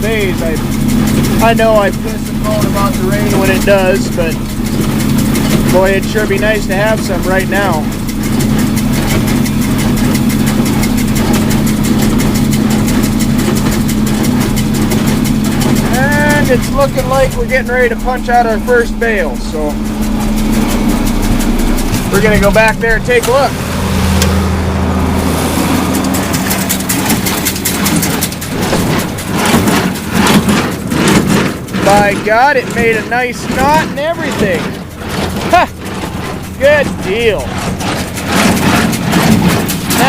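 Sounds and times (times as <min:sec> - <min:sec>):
baler fast even ticking: 0:00.0 - 0:40.0
tractor engine running: 0:00.0 - 0:40.0.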